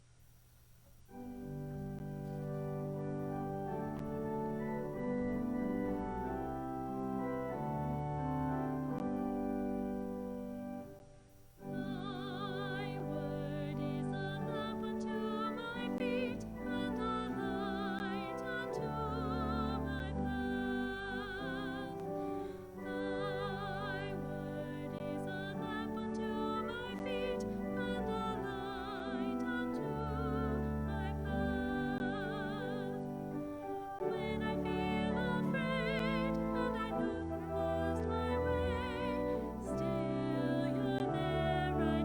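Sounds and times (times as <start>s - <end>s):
solo melody with vibrato: 1.2s - 11.0s, 11.6s - 42.0s.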